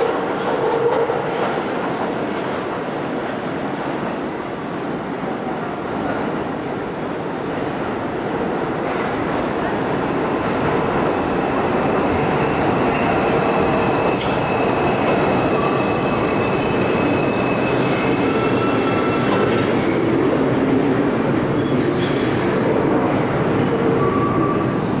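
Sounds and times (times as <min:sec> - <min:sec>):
subway train running: 0:00.0 - 0:25.0.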